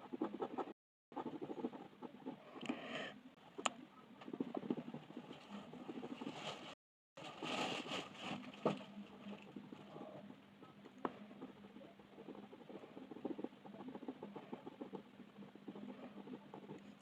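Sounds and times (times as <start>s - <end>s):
pencil scratching on paper: 0.0s - 3.6s, 4.2s - 6.8s, 9.2s - 17.0s.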